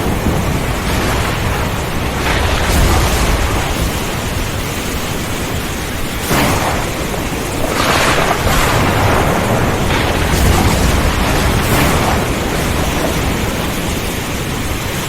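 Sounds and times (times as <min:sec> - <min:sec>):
loud thunder cracks: 0:00.0 - 0:15.0
low rolling thunder: 0:00.0 - 0:15.0
steady rain hiss: 0:00.0 - 0:15.0.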